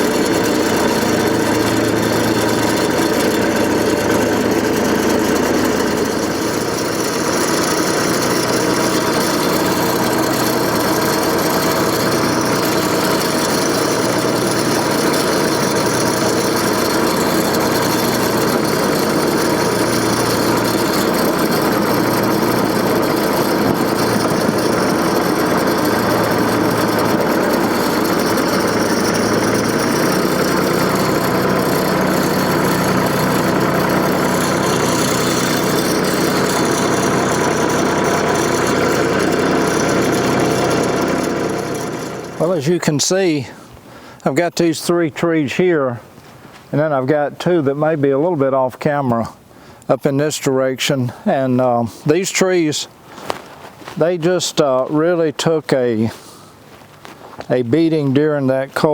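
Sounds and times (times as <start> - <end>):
backhoe engine running: 0.0 - 50.3, 51.1 - 58.9.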